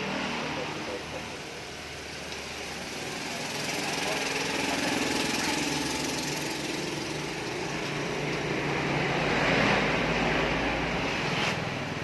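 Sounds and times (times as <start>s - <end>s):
small engine running: 0.0s - 11.3s.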